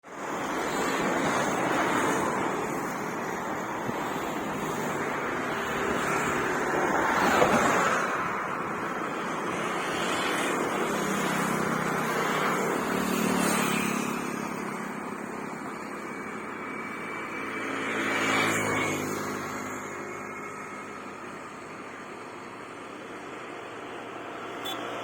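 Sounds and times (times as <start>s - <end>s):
road vehicles passing: 0.0s - 25.0s.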